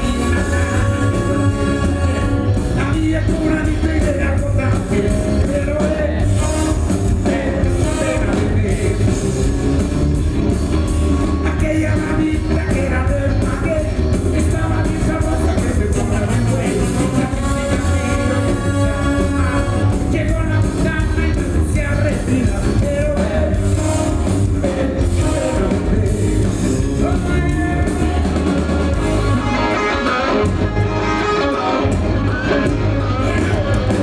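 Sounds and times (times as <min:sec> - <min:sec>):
person singing: 0:00.0 - 0:09.3, 0:11.3 - 0:34.0
drum kit: 0:00.0 - 0:34.0
electric guitars: 0:00.0 - 0:34.0
horn section: 0:00.0 - 0:34.0.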